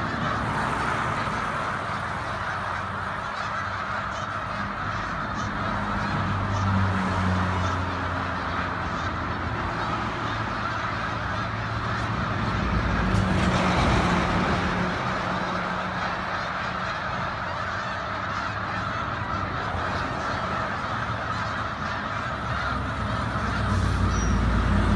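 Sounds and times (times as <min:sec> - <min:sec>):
flock of geese honking: 0:00.0 - 0:24.9.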